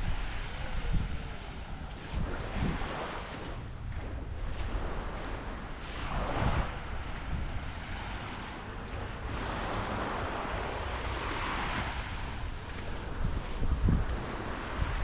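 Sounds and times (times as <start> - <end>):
waves washing on beach: 0.0 - 15.0
wind buffeting microphone: 0.0 - 15.0.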